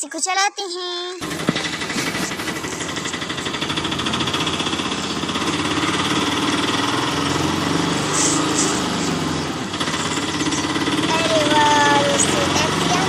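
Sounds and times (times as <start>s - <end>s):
toy motor buzzing rattle: 1.2s - 13.0s.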